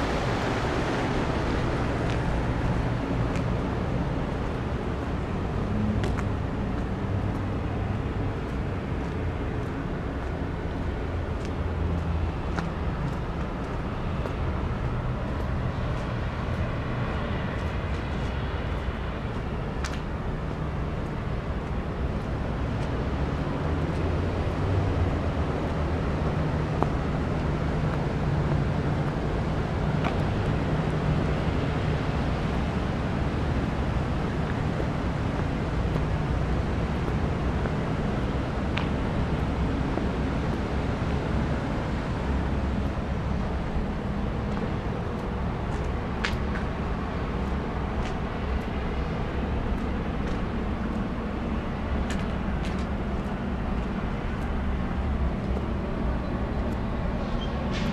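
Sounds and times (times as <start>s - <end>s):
low engine drone: 0.0s - 57.9s.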